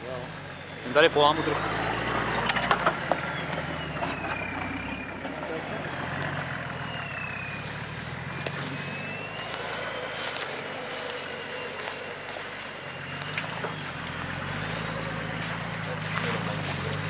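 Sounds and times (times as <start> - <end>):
engine running at low revs: 0.0 - 17.0
whine rising and falling: 0.6 - 16.4
twigs snapping under tyres: 1.5 - 17.0.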